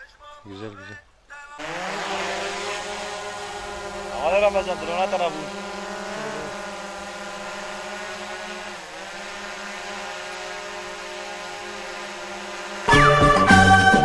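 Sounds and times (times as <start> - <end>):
drone propellers whirring: 1.6 - 14.0.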